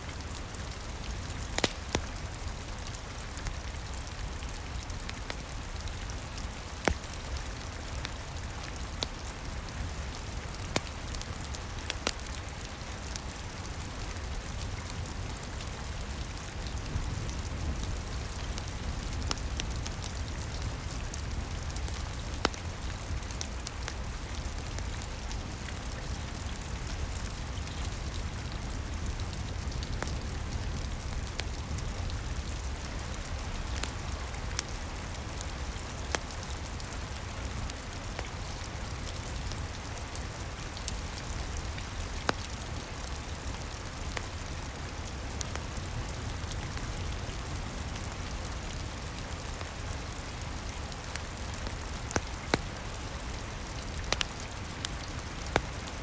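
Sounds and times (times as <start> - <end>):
rain pattering: 0.0 - 56.0
wood fire crackling: 0.0 - 56.0.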